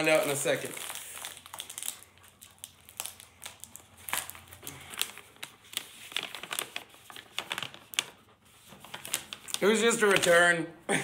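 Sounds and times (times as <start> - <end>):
packaging crinkling and rustling: 0.0 - 10.6.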